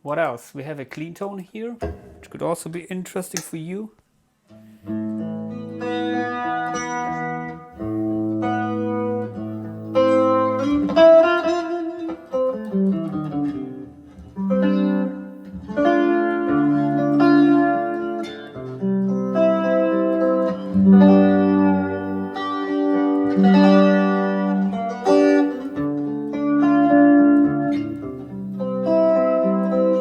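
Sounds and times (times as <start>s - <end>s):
clean electric guitar chords: 4.9s - 30.0s.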